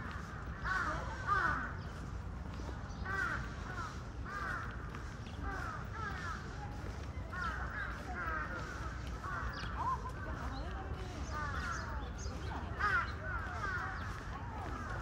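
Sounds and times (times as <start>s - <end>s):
crows cawing: 0.0s - 2.0s, 2.9s - 6.6s, 7.2s - 10.5s, 11.1s - 15.0s.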